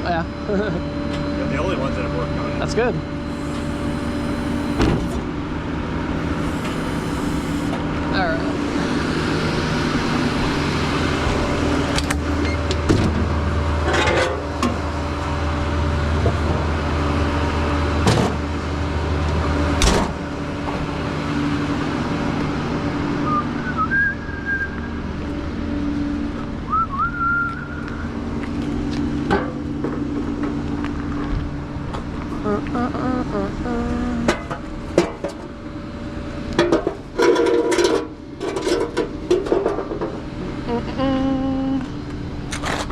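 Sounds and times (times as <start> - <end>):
vehicle engine idling: 0.0 - 42.9.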